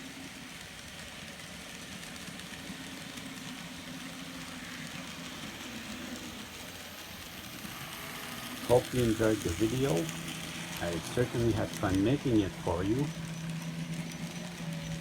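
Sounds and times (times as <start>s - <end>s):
model locomotive motor humming: 0.0s - 15.0s.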